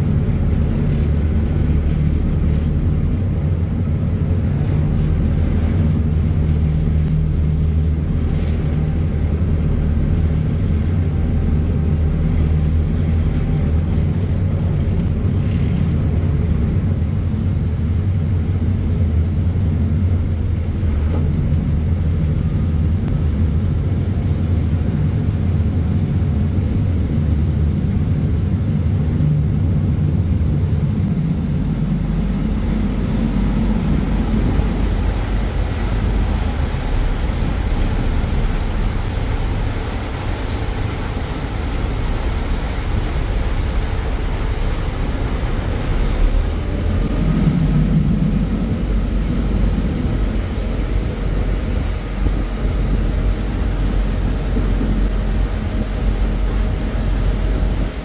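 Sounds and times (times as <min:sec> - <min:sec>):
ferry diesel engines rumbling: 0:00.0 - 0:58.0
propeller wash churning: 0:00.0 - 0:58.0.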